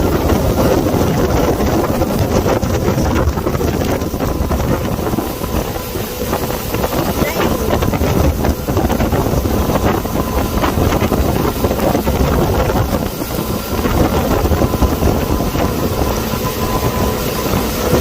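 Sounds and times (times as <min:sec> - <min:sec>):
motorboat engine running: 0:00.0 - 0:18.0
wind buffeting microphone: 0:00.0 - 0:18.0.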